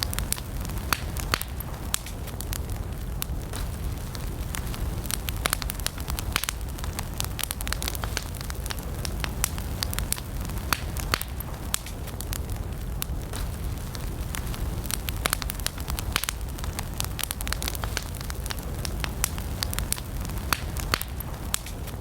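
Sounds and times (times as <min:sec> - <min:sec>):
campfire crackling and popping: 0:00.0 - 0:22.0
low rumble of flames: 0:00.0 - 0:22.0.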